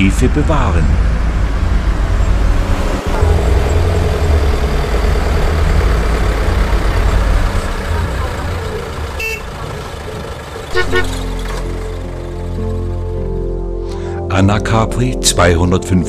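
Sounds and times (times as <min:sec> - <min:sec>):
bus engine and road noise: 0:00.0 - 0:14.2.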